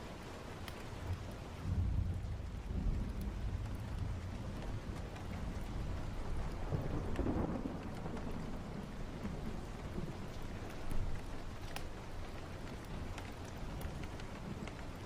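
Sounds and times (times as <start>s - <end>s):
steady rain: 0.0s - 15.0s
thunder rumbling: 1.1s - 15.0s.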